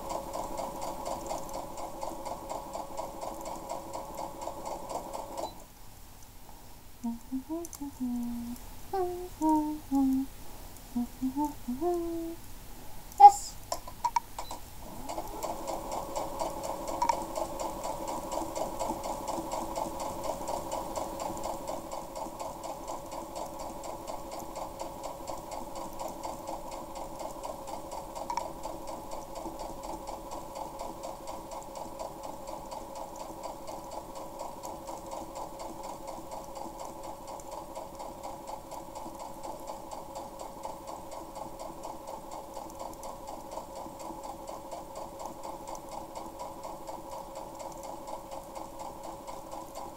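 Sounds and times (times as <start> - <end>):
electric sewing machine stitching: 0.0 - 5.6, 14.8 - 49.9.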